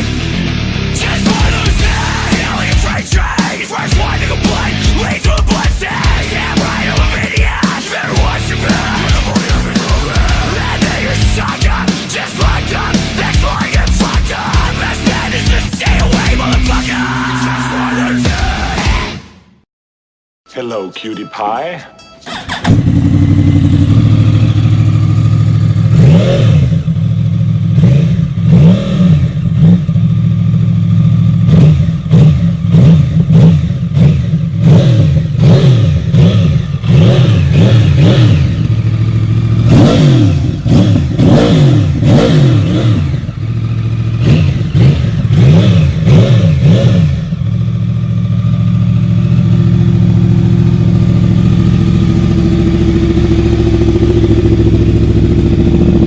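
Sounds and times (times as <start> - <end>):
motorcycle engine idling and revving: 0.0 - 19.1, 22.3 - 56.0.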